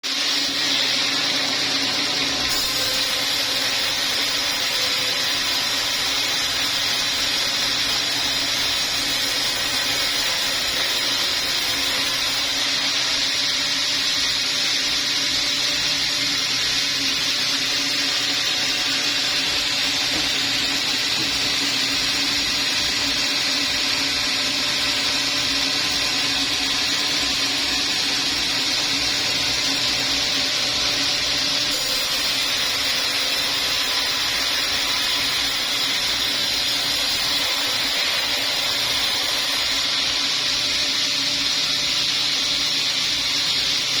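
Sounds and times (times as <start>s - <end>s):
sawmill saw whining: 0.0s - 44.0s.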